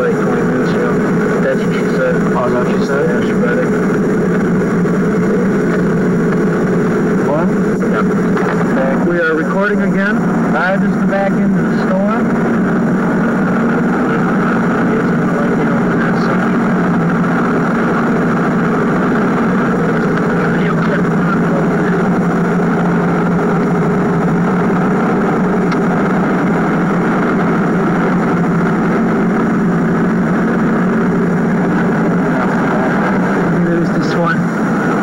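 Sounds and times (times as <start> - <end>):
car engine drone inside cabin: 0.0 - 35.0
road noise: 0.0 - 35.0
tape noise: 0.0 - 35.0.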